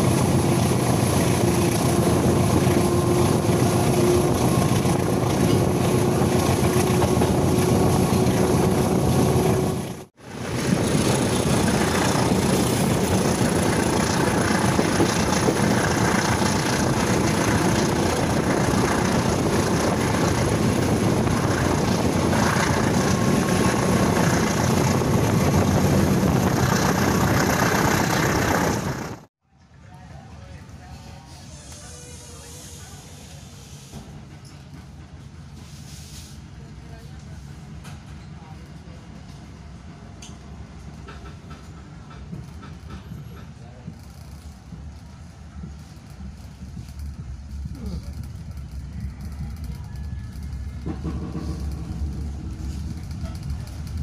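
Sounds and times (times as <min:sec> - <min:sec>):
train wheels rumbling on rails: 0:00.0 - 0:29.3, 0:30.4 - 0:54.0.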